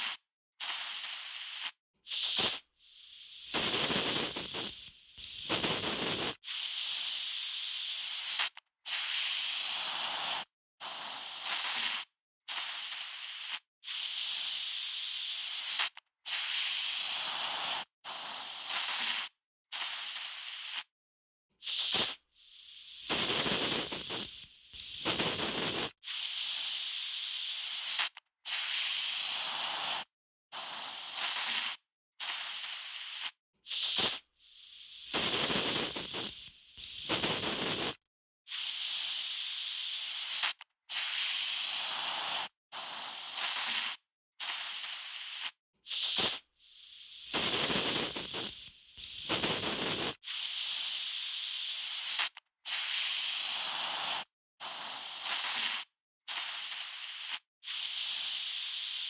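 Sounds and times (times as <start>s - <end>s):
aerosol spray can hissing: 0.0s - 20.9s, 21.6s - 59.0s.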